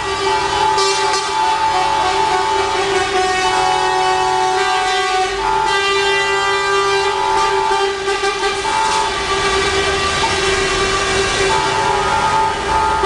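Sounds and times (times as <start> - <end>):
truck air horns honking: 0.0 - 13.0.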